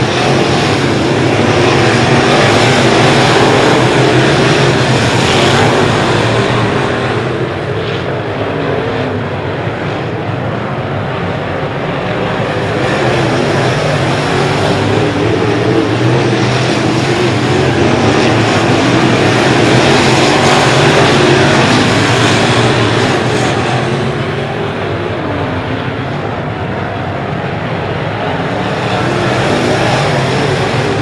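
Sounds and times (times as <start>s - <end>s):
race car engines running hard: 0.0s - 31.0s.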